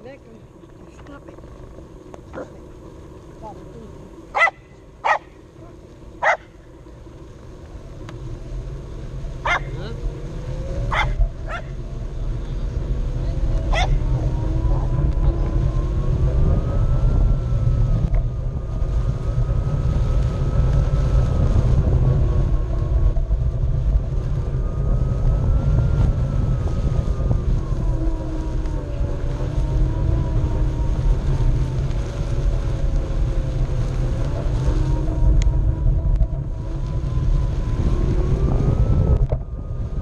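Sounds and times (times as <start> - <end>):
electric motor whine: 0.0 - 40.0
wind rumble on microphone: 0.0 - 40.0.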